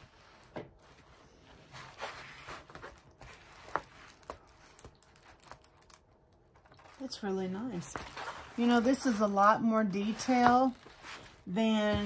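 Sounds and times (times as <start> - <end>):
canvas rustling and crinkling: 0.0 - 12.0.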